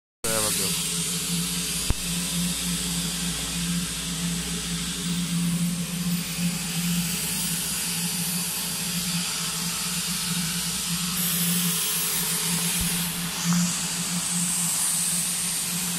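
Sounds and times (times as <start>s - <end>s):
welding arc hissing: 0.2s - 15.9s
low hum: 0.4s - 15.9s.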